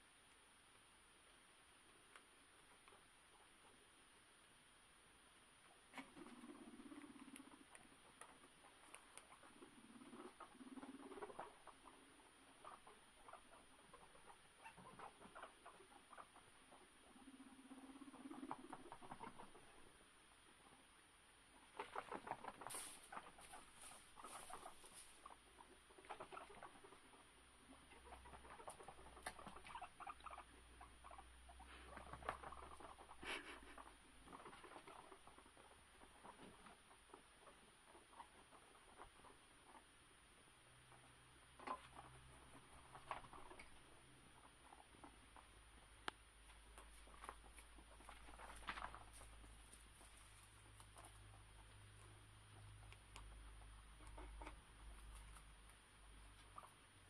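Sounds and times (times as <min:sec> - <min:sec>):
guinea pig rumbling buzz: 0:00.0 - 0:57.0
guinea pigs scurrying: 0:01.5 - 0:04.3, 0:05.6 - 0:57.0.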